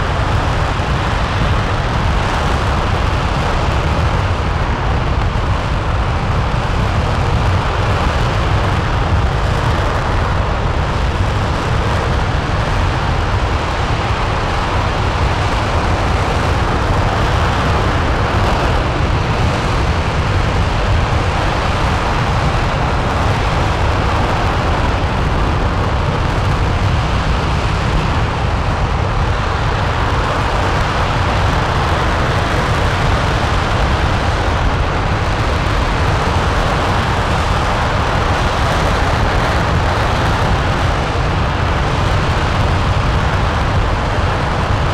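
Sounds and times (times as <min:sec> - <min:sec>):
rocket engine roaring: 0:00.0 - 0:44.9.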